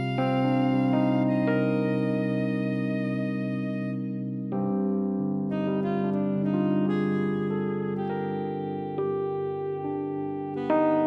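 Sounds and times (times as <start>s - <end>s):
saxophone: 0.0s - 4.2s, 5.5s - 11.0s
piano and keyboards: 0.0s - 11.0s.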